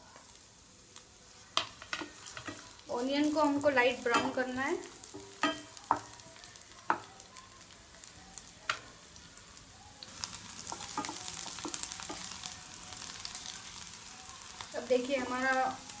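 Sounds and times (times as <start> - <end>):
onions sizzling in a pan: 0.0 - 16.0.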